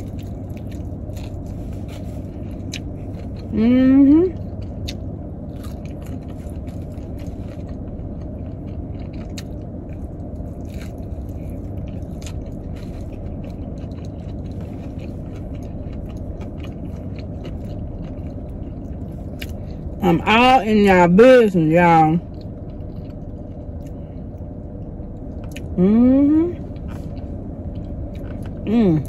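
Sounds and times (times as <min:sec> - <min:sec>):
chewing and biting food: 0:00.0 - 0:03.6, 0:04.2 - 0:20.0, 0:22.2 - 0:25.8, 0:26.6 - 0:28.7
steady low hum: 0:00.0 - 0:29.0.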